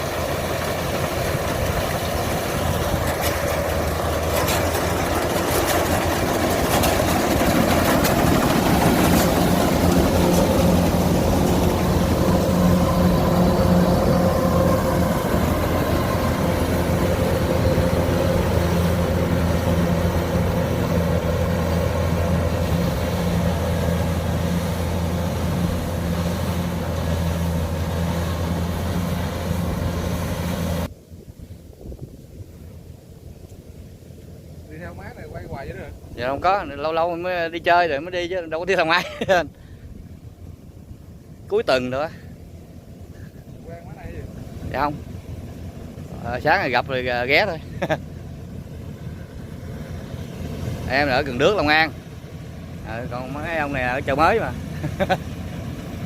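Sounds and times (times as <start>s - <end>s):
combine harvester diesel engine: 0.0s - 31.0s, 32.2s - 56.0s.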